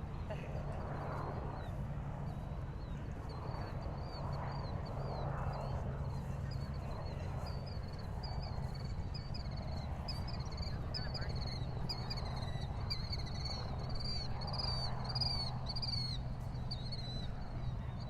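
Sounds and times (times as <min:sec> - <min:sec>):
low hum of boat engine: 0:00.0 - 0:18.0.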